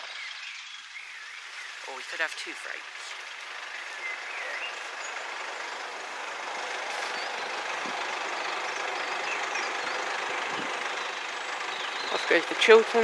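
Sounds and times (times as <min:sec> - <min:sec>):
diesel train engines running: 0:01.4 - 0:13.0.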